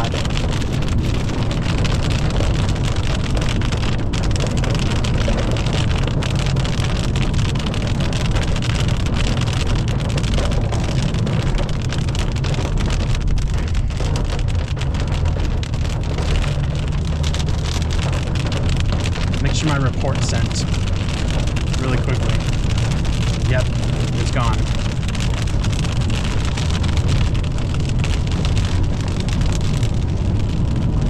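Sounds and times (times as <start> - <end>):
rain hitting a car: 0.0 - 31.0
road and engine rumble: 0.0 - 31.0.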